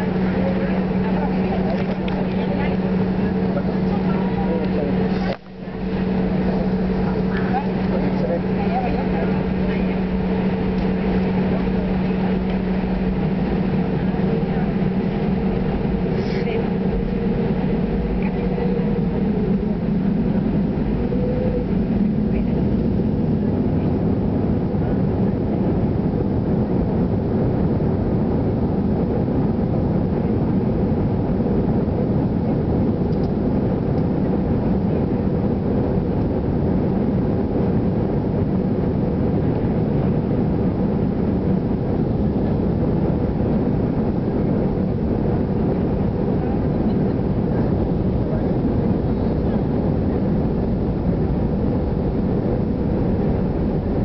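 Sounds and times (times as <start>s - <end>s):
airliner rolling noise: 0.0s - 54.0s
jet engines rumbling in cabin: 0.0s - 54.0s.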